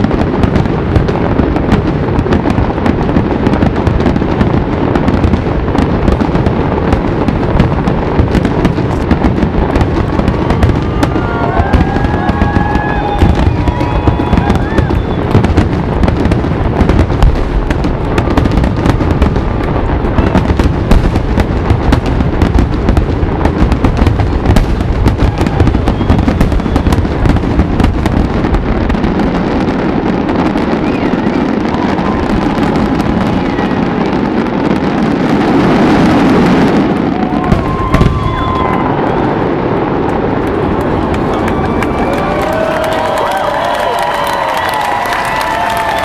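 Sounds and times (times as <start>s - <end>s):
crowd noise: 0.0s - 46.0s
fireworks cracks and bangs: 0.0s - 46.0s.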